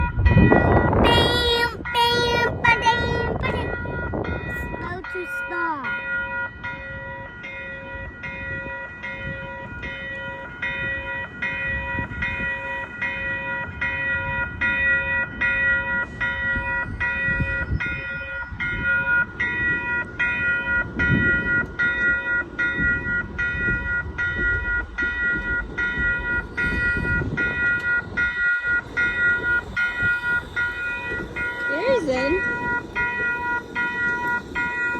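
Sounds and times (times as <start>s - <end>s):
railroad crossing bell ringing: 0.0s - 34.9s.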